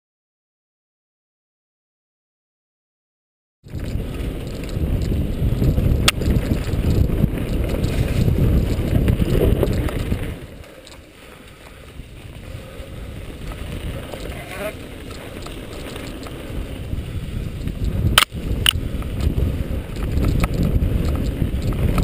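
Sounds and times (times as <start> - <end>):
bike rattling over ground: 3.6 - 22.0
wind buffeting microphone: 3.6 - 22.0.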